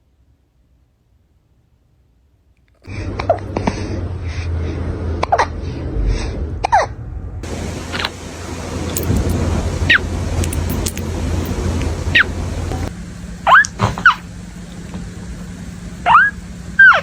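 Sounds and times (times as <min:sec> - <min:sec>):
steady low hum: 0:02.8 - 0:17.0.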